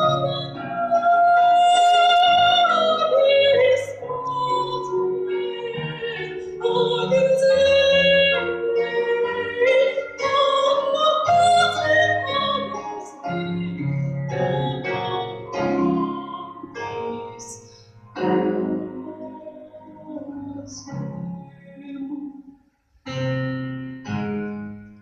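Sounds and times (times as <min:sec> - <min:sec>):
woman singing operatic melody: 0:00.0 - 0:22.6
piano accompaniment: 0:00.0 - 0:25.0.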